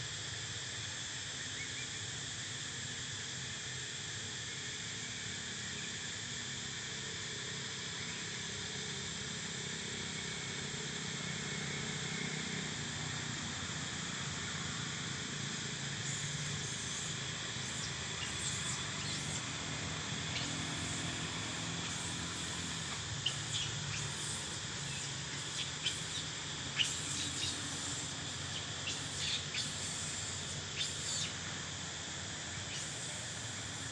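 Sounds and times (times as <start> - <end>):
constant hiss: 0.0 - 33.9
insect drone: 0.0 - 33.9.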